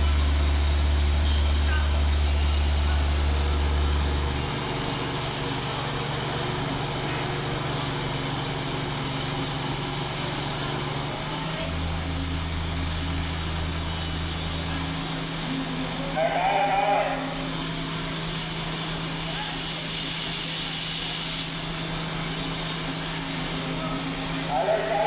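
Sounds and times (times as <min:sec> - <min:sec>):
heavy engine deep hum: 0:00.0 - 0:25.0.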